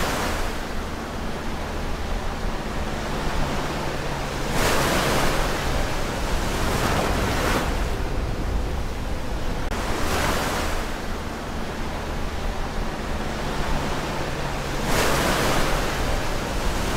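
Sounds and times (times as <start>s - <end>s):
ocean waves breaking: 0.0s - 16.9s.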